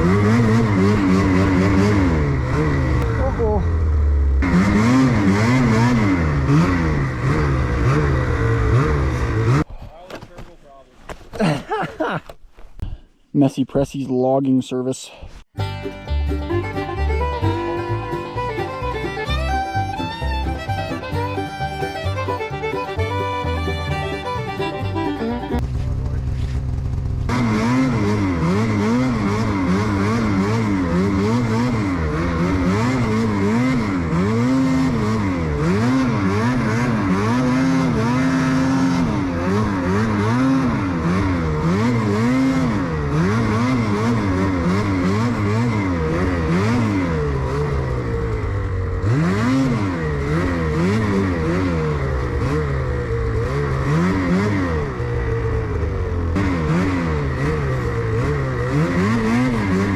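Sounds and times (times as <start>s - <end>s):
snowmobile engine revving: 0.0s - 9.7s, 16.7s - 59.9s.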